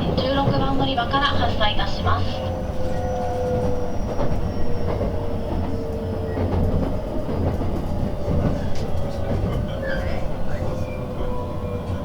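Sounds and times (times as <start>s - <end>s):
train interior low rumble: 0.0s - 12.0s.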